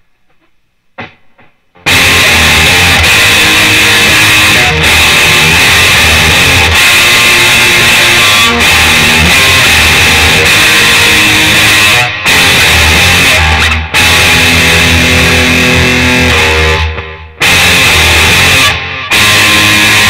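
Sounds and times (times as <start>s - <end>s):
distorted electric guitar riffing: 1.0s - 20.0s.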